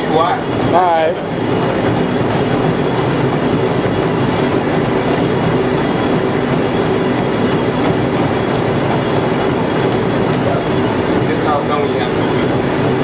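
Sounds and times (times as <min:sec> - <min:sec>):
treadmills running: 0:00.0 - 0:13.0.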